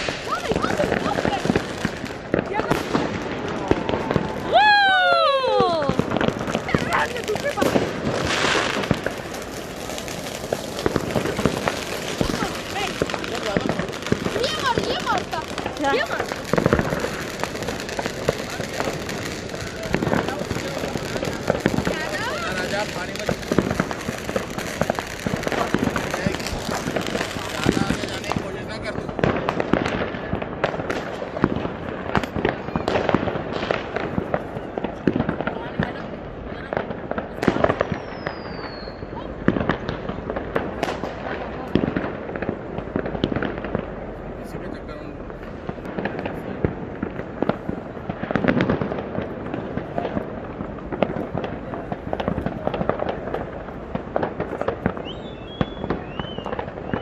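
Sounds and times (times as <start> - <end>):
crackling rumble: 0.0 - 4.7, 5.7 - 57.0
fireworks bangs and cracks: 0.0 - 57.0.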